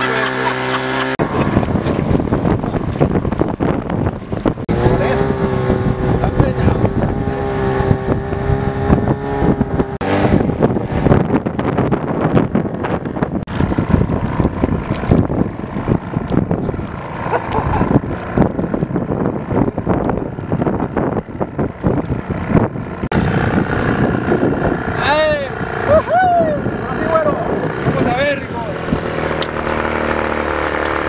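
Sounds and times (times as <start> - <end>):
outboard motor running: 0.0 - 31.0
wind buffeting microphone: 0.6 - 31.0.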